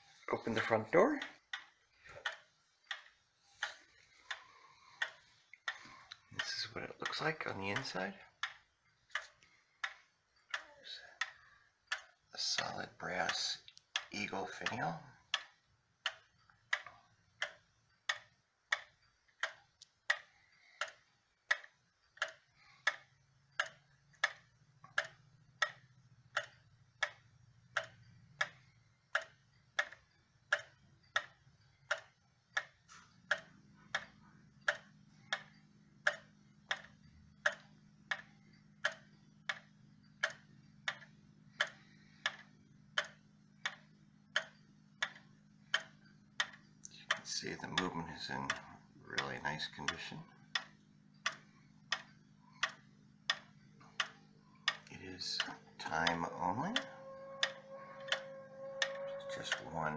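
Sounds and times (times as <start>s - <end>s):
wall clock ticking: 0.0s - 59.9s.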